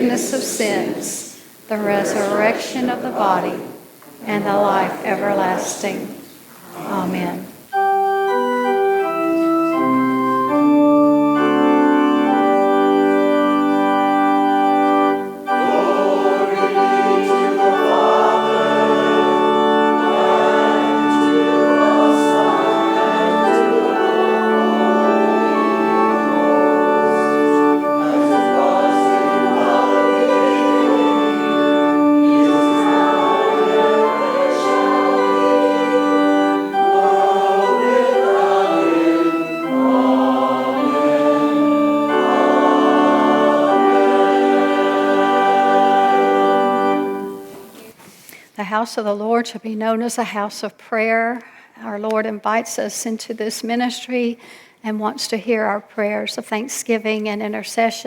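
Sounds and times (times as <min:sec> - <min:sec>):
organ playing chords: 0:00.0 - 0:06.1, 0:06.9 - 0:47.8
congregation singing a hymn: 0:00.0 - 0:47.9.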